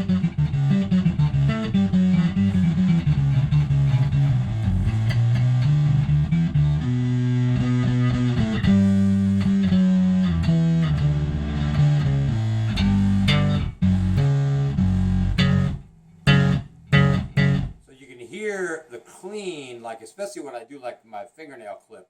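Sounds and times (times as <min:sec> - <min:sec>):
fuzzy synth bass riff: 0:00.0 - 0:17.9.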